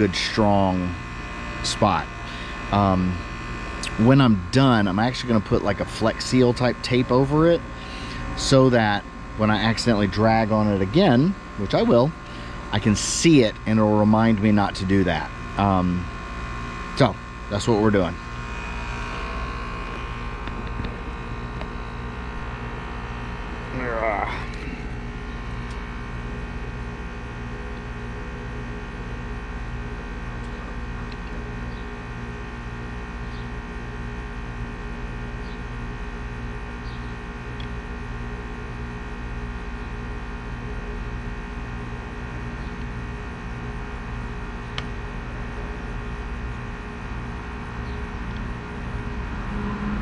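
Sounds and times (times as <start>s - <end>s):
air conditioner humming: 0.0s - 50.0s.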